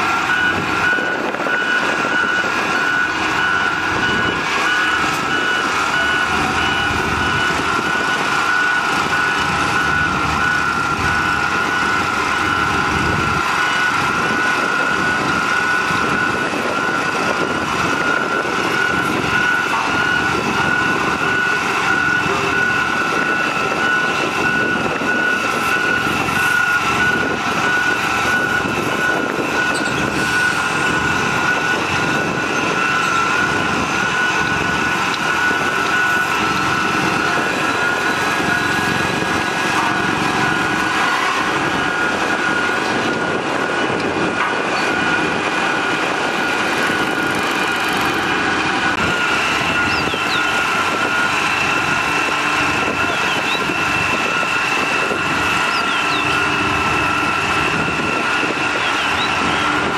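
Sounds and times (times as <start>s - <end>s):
heavy machine engine running: 0.0s - 59.9s
reversing alarm beeping: 0.0s - 59.9s.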